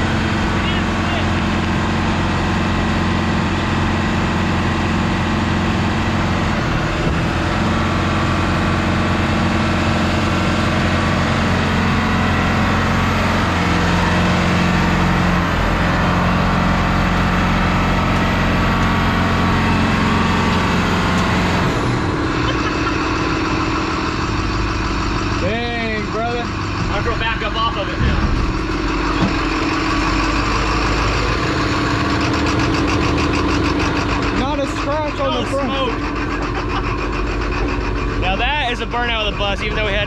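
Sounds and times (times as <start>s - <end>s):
bus engine at high revs: 0.0s - 40.0s.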